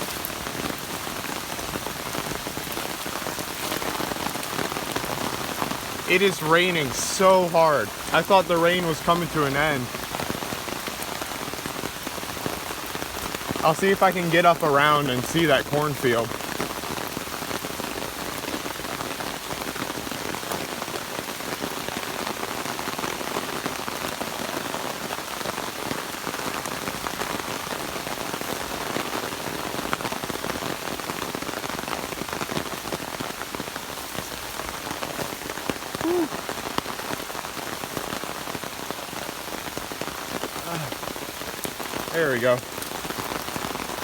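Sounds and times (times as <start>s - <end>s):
heavy rain on ground and foliage: 0.0s - 44.0s.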